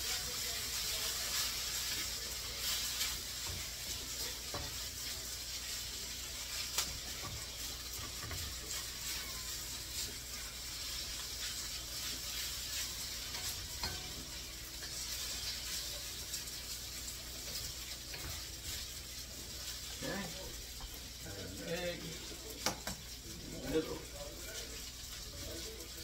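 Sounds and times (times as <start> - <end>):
wooden spatula scraping a wok: 0.0 - 21.0
noodles sizzling in a wok: 0.0 - 26.0.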